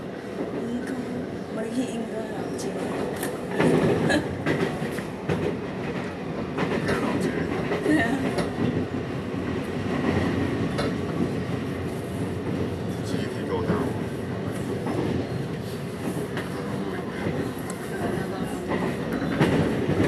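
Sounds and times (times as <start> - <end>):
train rumble inside carriage: 0.0 - 20.0.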